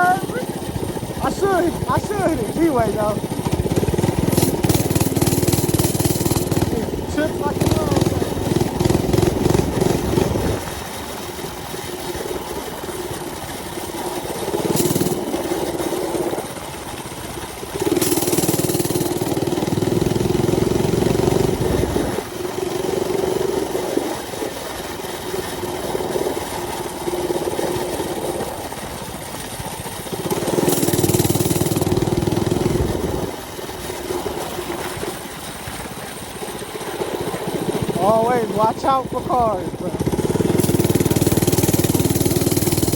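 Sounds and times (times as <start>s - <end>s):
small engine droning: 0.0s - 42.9s.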